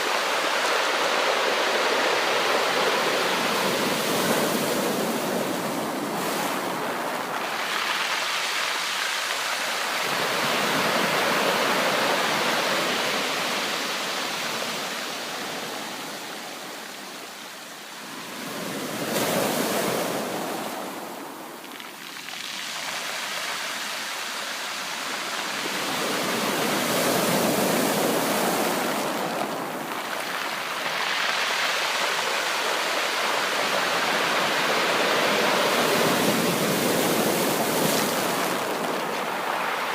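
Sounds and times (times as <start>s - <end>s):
waves breaking: 0.0s - 16.8s, 18.0s - 39.9s.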